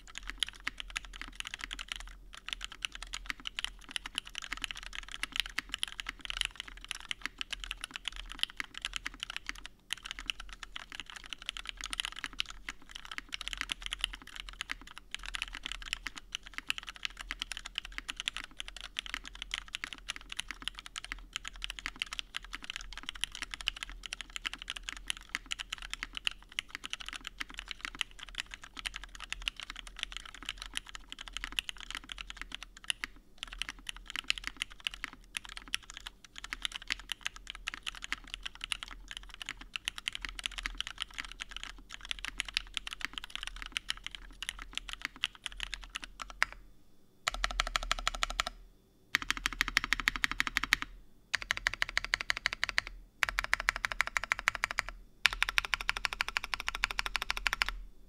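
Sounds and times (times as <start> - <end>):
mechanical keyboard typing: 0.0 - 46.6, 47.2 - 57.8.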